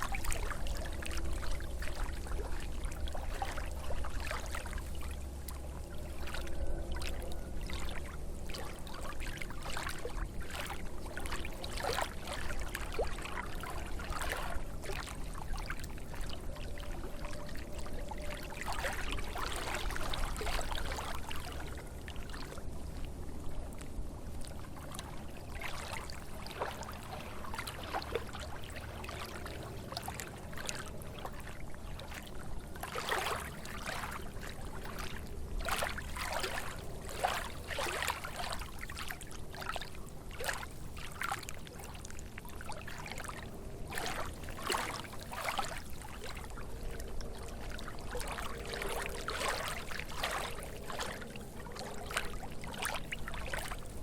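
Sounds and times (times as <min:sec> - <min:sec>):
lake waves lapping at shore: 0:00.0 - 0:54.0
steady low rumble: 0:00.0 - 0:54.0.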